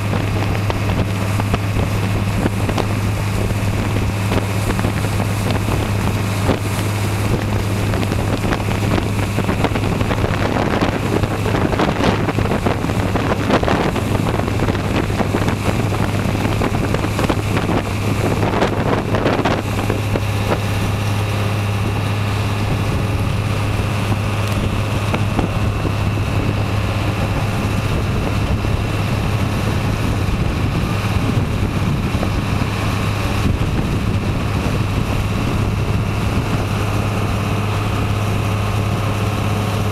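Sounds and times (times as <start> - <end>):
ferry engine humming: 0.0 - 39.9
water rushing in wake: 0.0 - 39.9
wind buffeting microphone: 0.0 - 39.9.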